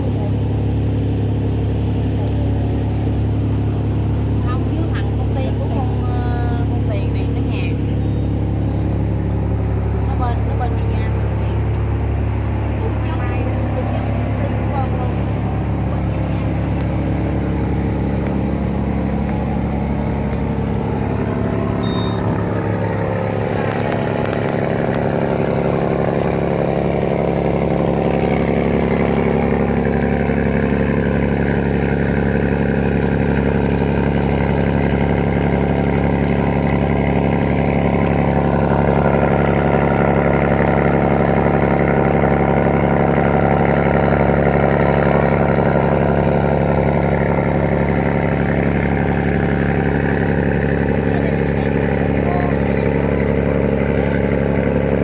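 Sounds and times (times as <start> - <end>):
ferry engine running: 0.0 - 55.0.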